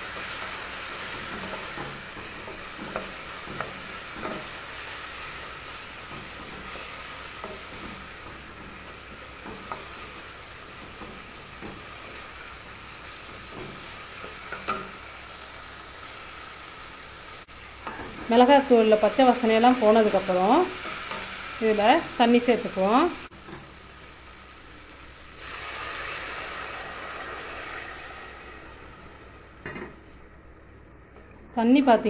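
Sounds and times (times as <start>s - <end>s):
food sizzling in a pot: 0.0s - 30.8s.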